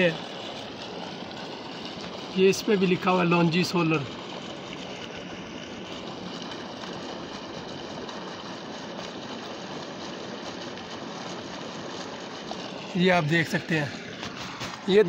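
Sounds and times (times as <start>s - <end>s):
water pouring rushing: 0.0s - 15.0s.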